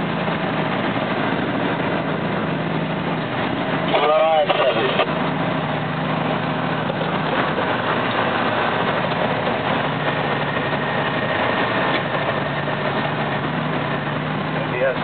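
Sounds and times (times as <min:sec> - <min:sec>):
truck diesel engine humming: 0:00.0 - 0:15.0
tyres on gravel road: 0:00.0 - 0:15.0.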